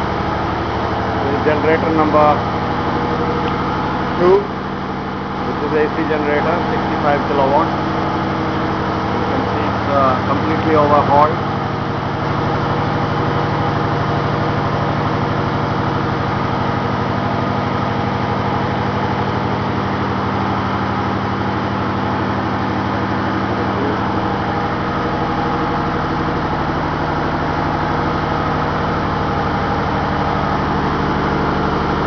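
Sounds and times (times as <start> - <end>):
diesel engine humming: 0.0 - 32.0.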